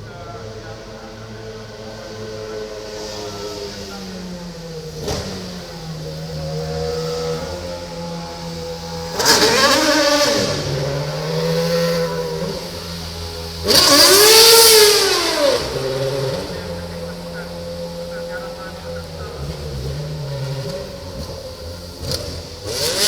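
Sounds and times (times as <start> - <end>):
race car engine idling: 0.0 - 23.0
race car engine revving: 0.0 - 23.0.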